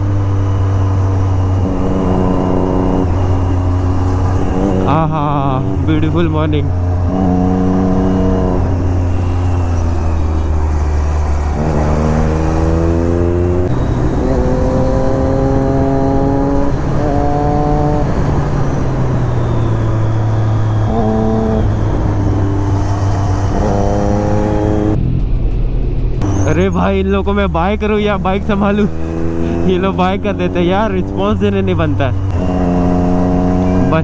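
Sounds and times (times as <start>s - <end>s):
motorcycle engine changing gear: 0.0s - 25.3s, 26.2s - 34.0s
wind noise: 0.0s - 34.0s.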